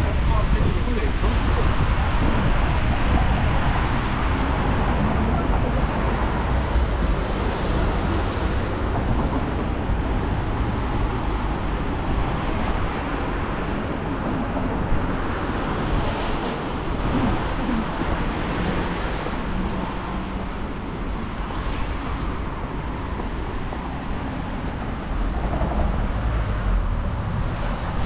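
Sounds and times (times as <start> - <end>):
city street traffic rumble: 0.0 - 28.0.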